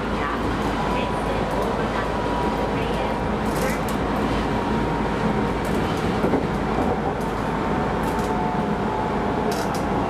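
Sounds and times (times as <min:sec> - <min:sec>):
train rolling rumble: 0:00.0 - 0:10.0.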